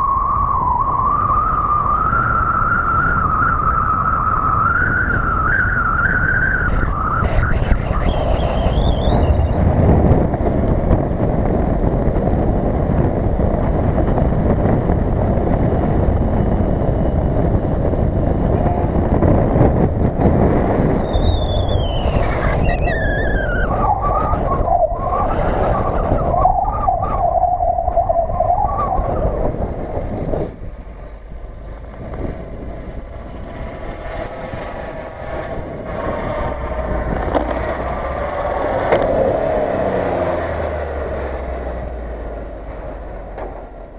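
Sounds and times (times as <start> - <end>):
high whine: 0.0 - 43.9
vehicle engine rumbling: 0.0 - 43.9.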